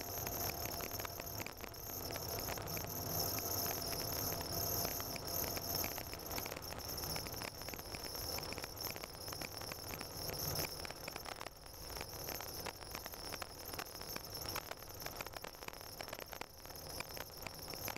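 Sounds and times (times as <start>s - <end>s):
steady high-pitched hiss: 0.0s - 17.9s.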